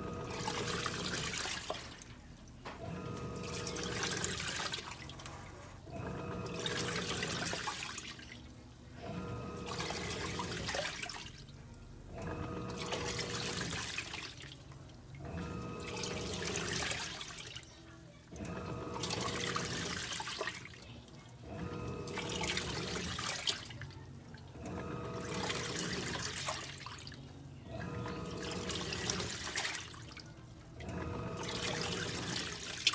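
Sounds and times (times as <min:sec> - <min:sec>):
washing machine motor humming: 0:00.0 - 0:32.9
water sloshing in washing machine: 0:00.0 - 0:32.9.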